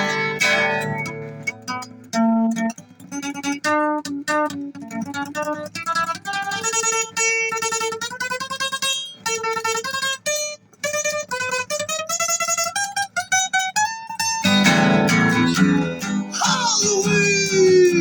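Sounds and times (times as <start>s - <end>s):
plucked guitar melody: 0.0s - 18.0s.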